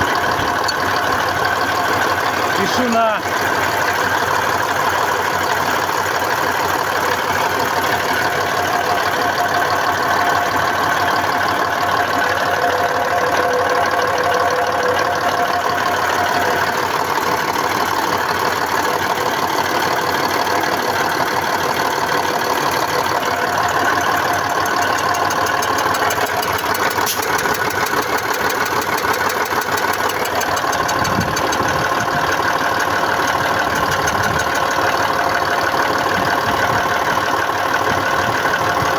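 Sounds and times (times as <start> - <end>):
diesel engine idling with metallic knock: 0.0 - 38.9.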